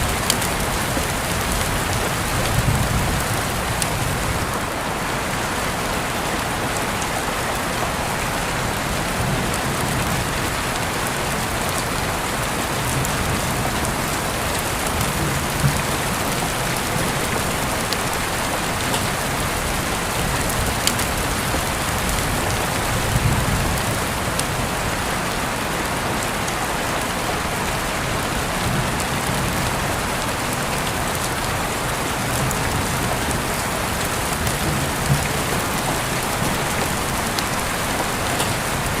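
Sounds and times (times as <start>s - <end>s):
raindrops ticking: 0.0s - 4.6s, 8.8s - 24.9s, 27.7s - 39.0s
rain falling: 0.0s - 39.0s.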